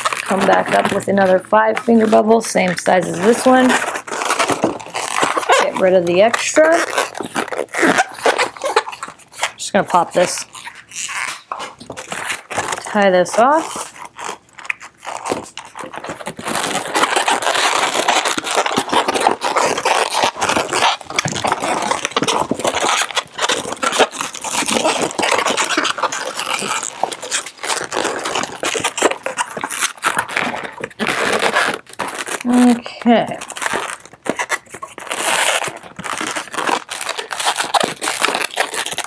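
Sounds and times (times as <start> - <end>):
balloons rubbing and squeaking: 0.0 - 39.0.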